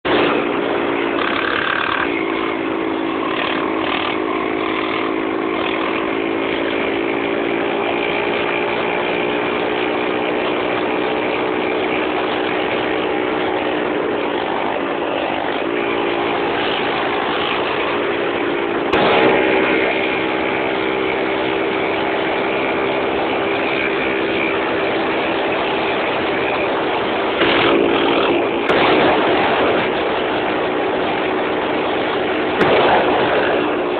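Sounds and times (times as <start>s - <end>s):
motorcycle engine running: 0.0s - 33.9s
wind and road noise: 0.0s - 33.9s.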